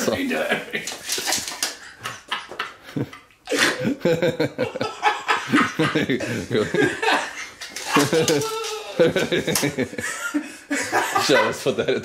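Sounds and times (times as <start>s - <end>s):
laughter-like bursts: 0.4s - 12.0s.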